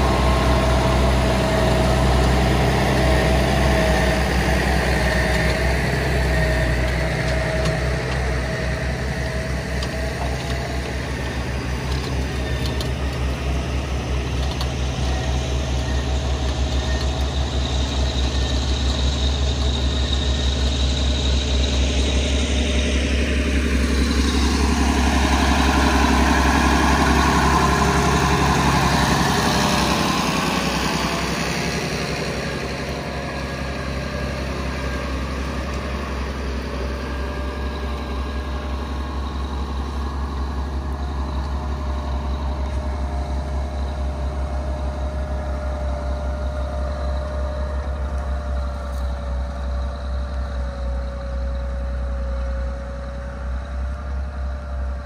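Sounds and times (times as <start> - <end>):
diesel tractor engine: 0.0 - 55.0.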